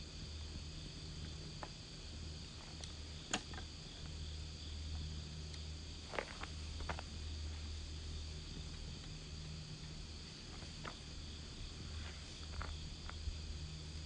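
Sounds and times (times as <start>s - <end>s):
fire popping: 0.0s - 14.0s
low rumble and hiss: 0.0s - 14.0s
wood fire crackling: 0.0s - 14.0s.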